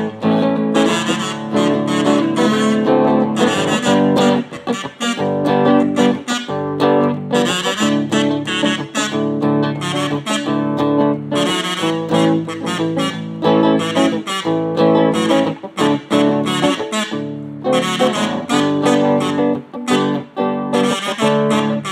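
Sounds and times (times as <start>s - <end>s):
steel-string guitar picking: 0.0s - 21.9s.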